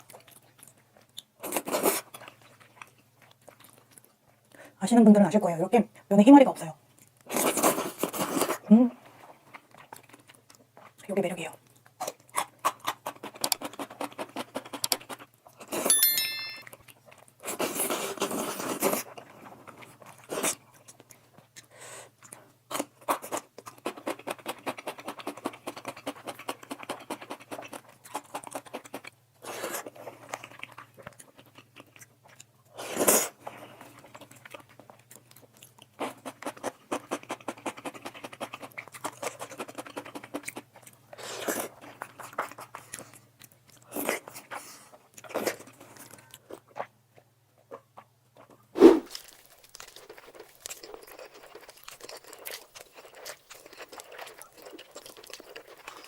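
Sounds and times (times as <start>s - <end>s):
wet chewing and mouth smacking: 0.0s - 4.7s, 6.9s - 15.8s, 16.8s - 56.0s.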